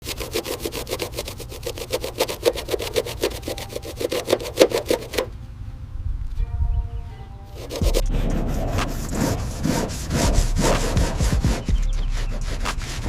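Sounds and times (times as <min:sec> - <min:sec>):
rapid rhythmic scraping: 0:00.0 - 0:05.3, 0:07.6 - 0:13.0
faint low hum: 0:00.1 - 0:13.0.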